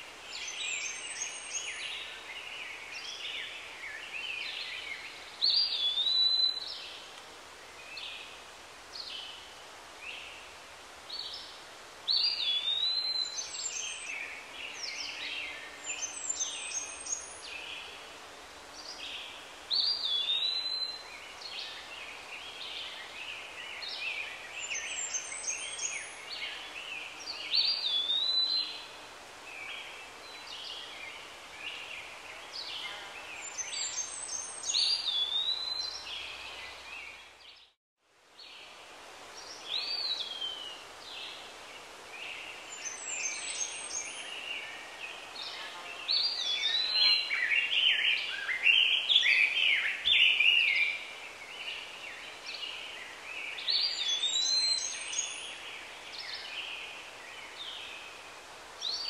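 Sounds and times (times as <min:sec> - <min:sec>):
birds chirping and twittering: 0:00.0 - 0:09.4, 0:11.1 - 0:18.0, 0:18.8 - 0:37.8, 0:39.4 - 0:59.0.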